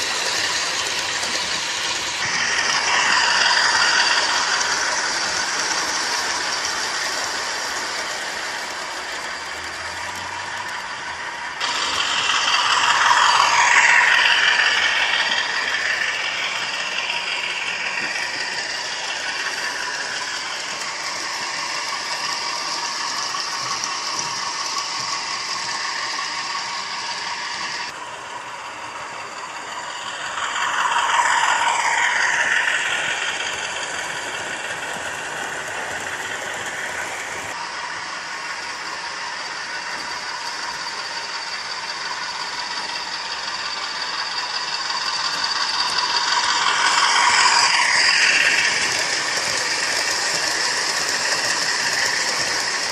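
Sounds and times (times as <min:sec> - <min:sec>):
diesel engine sound from speaker: 0:00.0 - 0:52.9
model train wheels clattering: 0:00.0 - 0:52.9.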